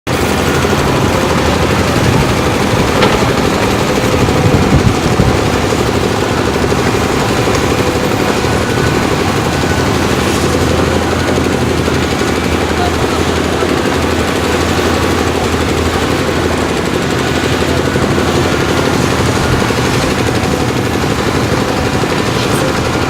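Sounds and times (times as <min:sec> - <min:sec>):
diesel engine running: 0:00.1 - 0:23.0.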